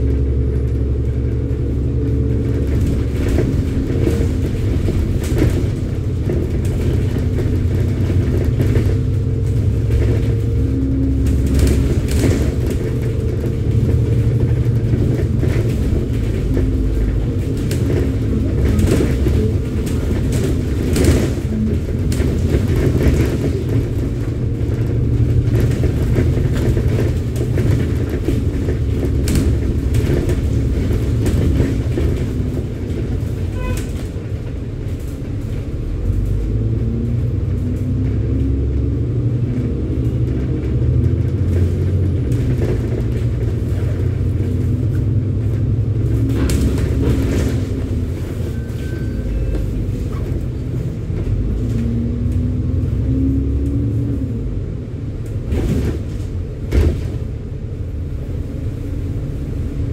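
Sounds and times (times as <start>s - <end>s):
bus diesel engine rumble: 0.0s - 59.9s
knocks and rattles: 0.1s - 54.3s, 55.0s - 59.9s.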